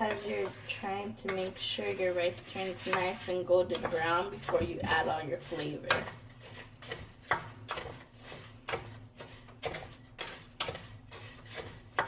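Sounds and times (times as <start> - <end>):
rice frying in oil: 0.0 - 12.0
spoon scraping a pot: 0.0 - 12.0.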